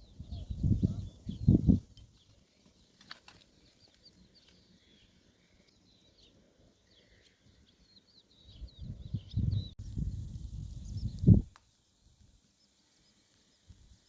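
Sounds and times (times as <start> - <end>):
faint high-pitched chirping: 0.0 - 14.0.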